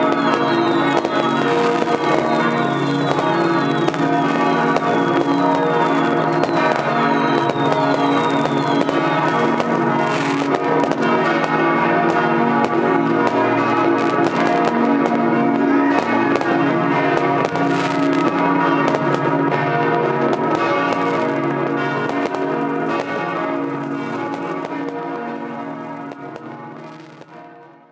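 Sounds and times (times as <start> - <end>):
church bells pealing: 0.0 - 27.9
fireworks crackling and banging: 0.0 - 27.9.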